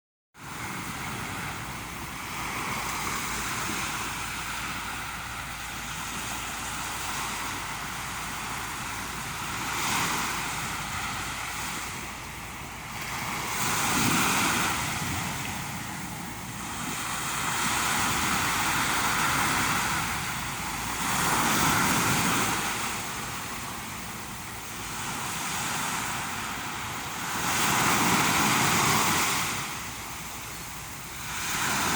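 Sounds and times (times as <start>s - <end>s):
waves breaking: 0.4s - 31.9s.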